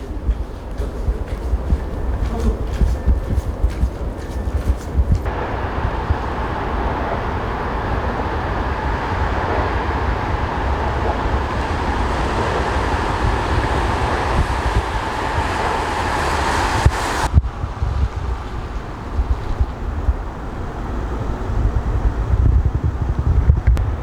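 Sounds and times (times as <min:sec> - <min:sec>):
city street traffic noise: 0:00.0 - 0:24.0
wind buffeting microphone: 0:00.0 - 0:24.0.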